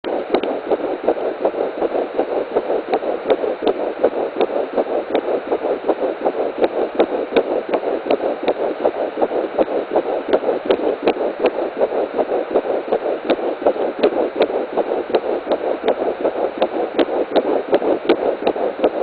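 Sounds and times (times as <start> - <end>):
doppler fetal heartbeat: 0.0 - 19.0.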